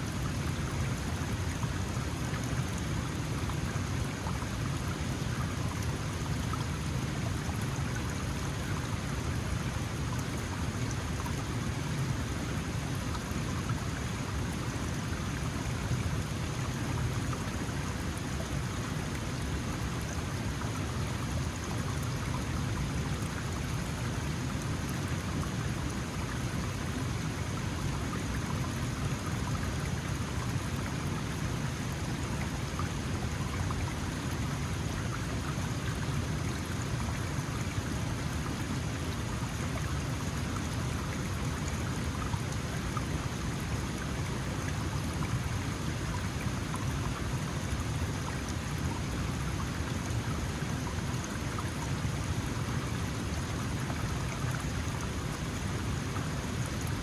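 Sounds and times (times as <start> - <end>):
mountain stream babbling: 0.0 - 57.0.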